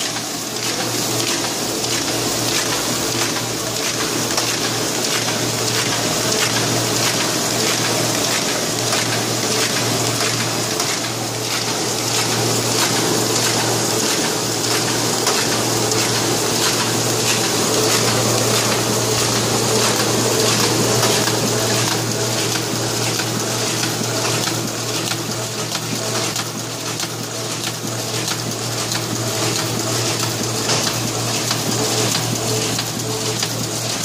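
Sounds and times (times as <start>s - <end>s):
printing press whir and hiss: 0.0s - 34.0s.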